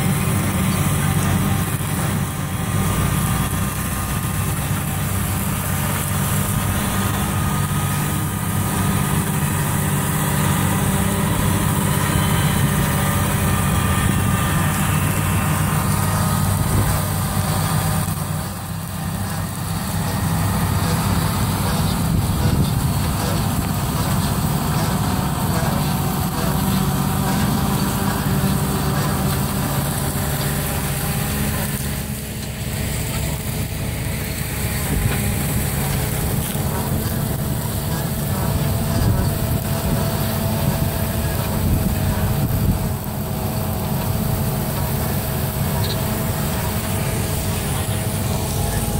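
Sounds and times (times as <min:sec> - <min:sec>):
tractor diesel engine under load: 0:00.0 - 0:48.9
vehicle noise: 0:00.0 - 0:48.9.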